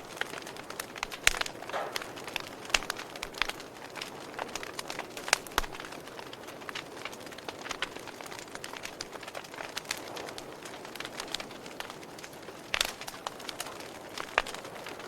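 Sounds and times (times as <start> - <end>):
loud fire pops: 0.0 - 15.0
wood fire crackling: 0.0 - 15.0.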